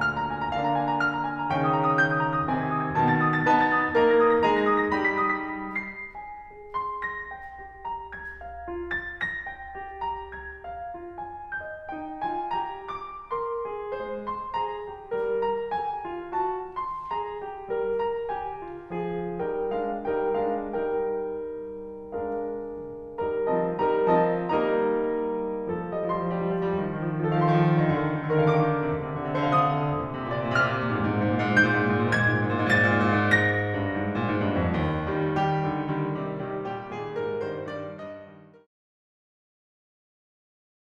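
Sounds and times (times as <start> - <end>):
piano music: 0.0 - 38.7.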